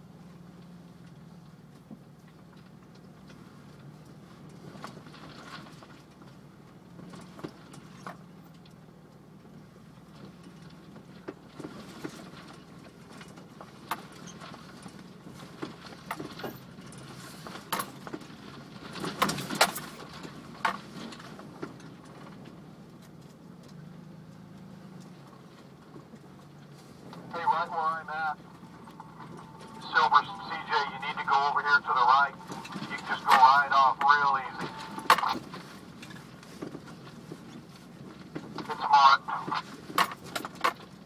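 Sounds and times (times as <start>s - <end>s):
engine low drone: 0.0s - 41.0s.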